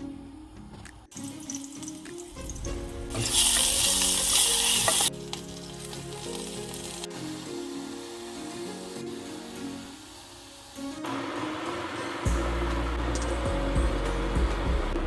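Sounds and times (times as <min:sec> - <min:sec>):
background music: 0:00.0 - 0:15.0
food sizzling in a pan: 0:01.2 - 0:13.4.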